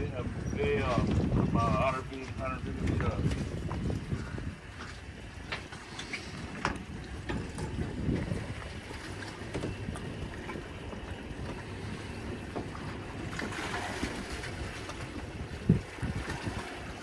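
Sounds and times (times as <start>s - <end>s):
water washing against boat hull: 0.0s - 17.0s
wind buffeting microphone: 0.0s - 17.0s.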